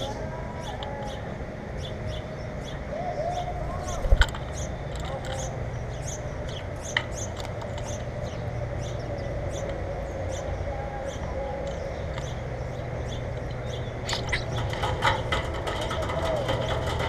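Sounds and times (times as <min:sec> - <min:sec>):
low background hum: 0:00.0 - 0:17.0
small birds chirping: 0:00.0 - 0:17.0.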